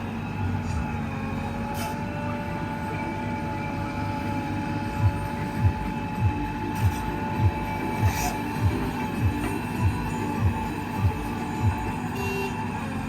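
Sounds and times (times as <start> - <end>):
diesel engine running with whine: 0.0 - 13.0.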